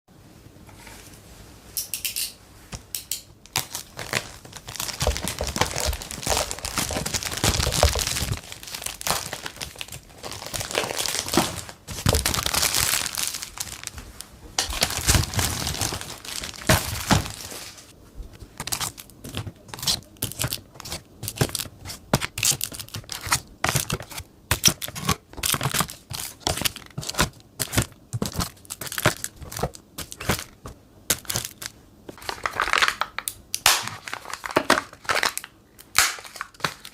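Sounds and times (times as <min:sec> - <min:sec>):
packaging crinkling and rustling: 0:03.5 - 0:36.9.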